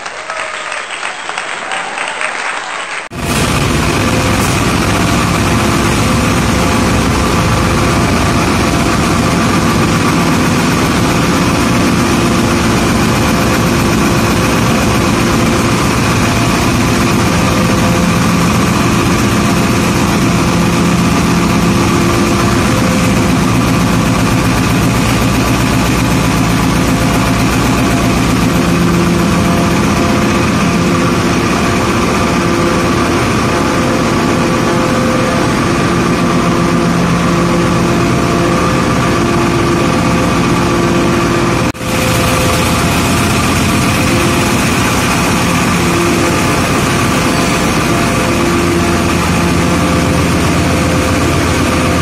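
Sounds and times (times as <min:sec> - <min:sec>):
air compressors droning: 0:03.1 - 0:52.0.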